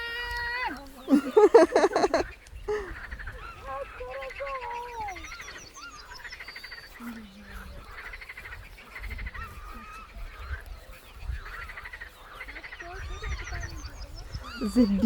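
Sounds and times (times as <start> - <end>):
birds whistling and chirping: 0.7 - 15.0
frogs croaking in chorus: 1.1 - 15.0.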